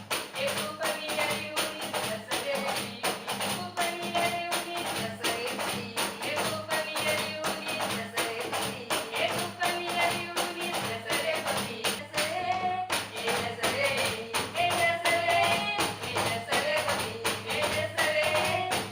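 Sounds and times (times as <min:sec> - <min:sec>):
percussive slaps: 0:00.0 - 0:18.9.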